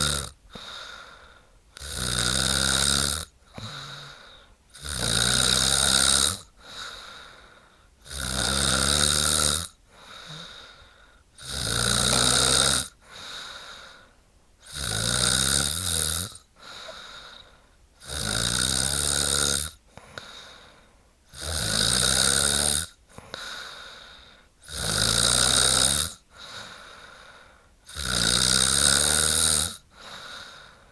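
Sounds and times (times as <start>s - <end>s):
woman snoring: 0.0s - 1.2s, 1.8s - 7.2s, 8.0s - 14.0s, 14.6s - 17.4s, 18.0s - 20.4s, 21.3s - 23.9s, 24.6s - 27.2s, 27.8s - 30.9s.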